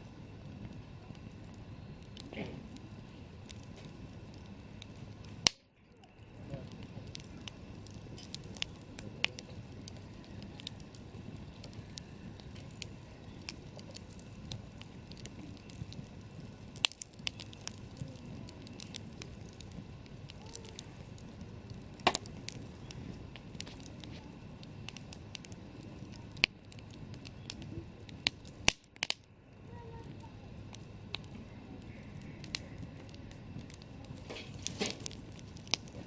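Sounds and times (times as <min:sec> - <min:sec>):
campfire crackling: 0:00.0 - 0:36.0
loud fire pops: 0:00.6 - 0:05.6, 0:06.3 - 0:36.0
rush of flame: 0:06.2 - 0:36.0.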